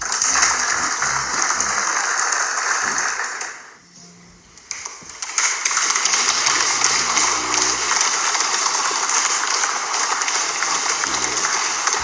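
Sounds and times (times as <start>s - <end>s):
crowd applause: 0.0s - 3.8s, 4.6s - 12.0s.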